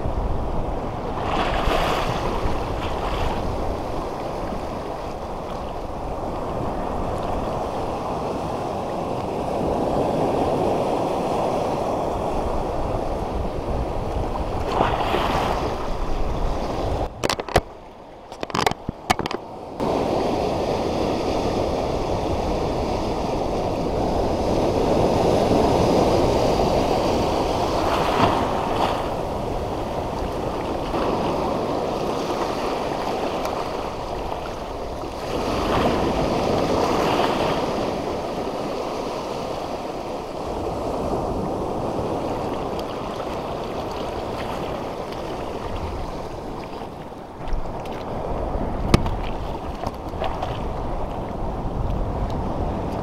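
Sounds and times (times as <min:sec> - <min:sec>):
surf rushing over reef: 0:00.0 - 0:17.5, 0:19.2 - 0:53.0.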